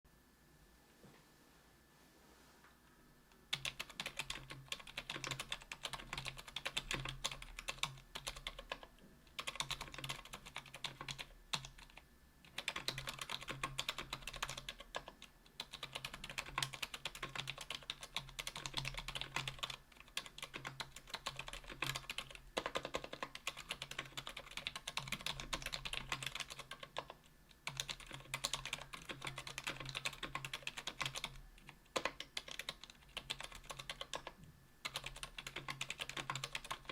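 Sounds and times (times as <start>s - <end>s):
typing on mechanical keyboard: 3.5s - 36.9s.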